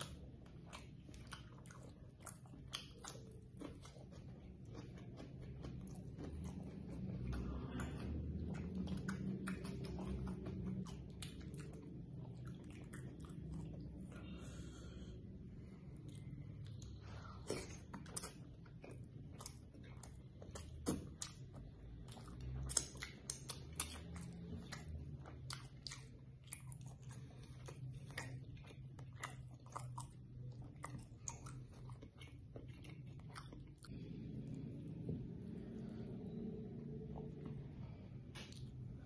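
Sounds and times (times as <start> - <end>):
person chewing with wet clicks: 0.0 - 39.0.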